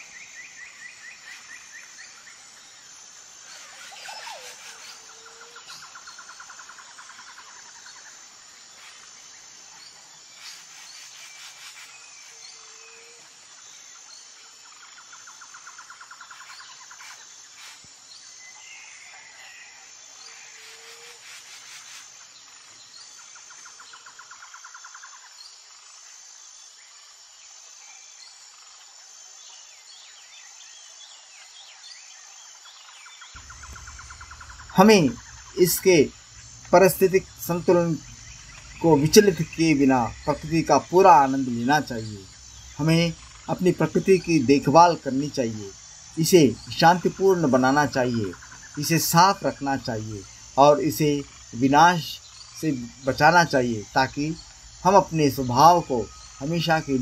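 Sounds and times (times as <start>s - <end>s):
bird chirps: 0.0s - 19.5s, 29.5s - 57.0s
high insect whine: 0.0s - 57.0s
insects trilling in bursts: 0.0s - 57.0s.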